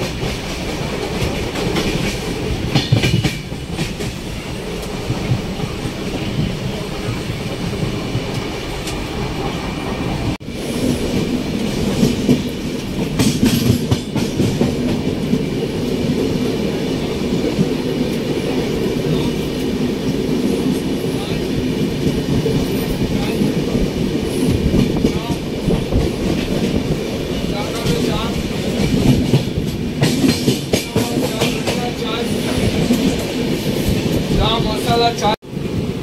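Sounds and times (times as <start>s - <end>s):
louder train clatter: 0.0s - 36.0s
train wheels rumbling on rails: 0.0s - 36.0s.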